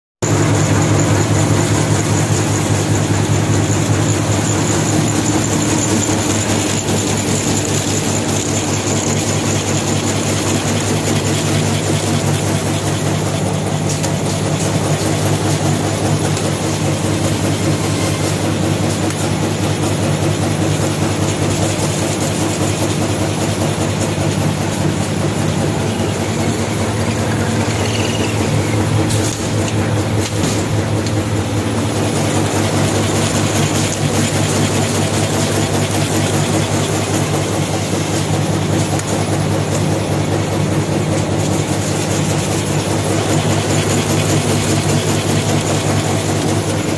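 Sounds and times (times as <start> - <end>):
fast continuous rattle: 0.2 - 46.9
machinery humming: 0.2 - 46.9.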